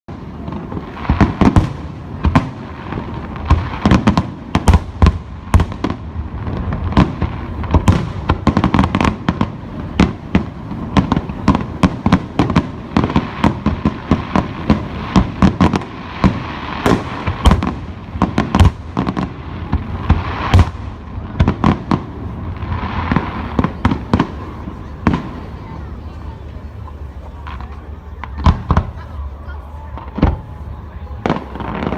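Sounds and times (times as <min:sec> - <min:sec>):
fireworks crackling: 0:00.1 - 0:31.9.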